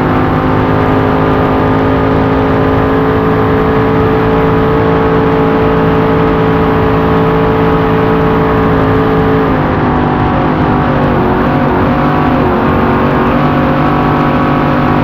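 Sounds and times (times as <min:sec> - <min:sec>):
race boat engine at full throttle: 0:00.0 - 0:15.0.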